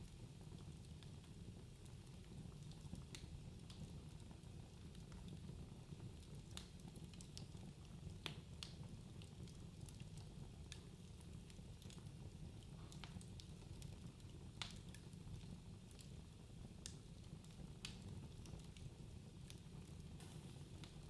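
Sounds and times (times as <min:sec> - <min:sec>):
wood fire crackling: 0:00.1 - 0:21.0.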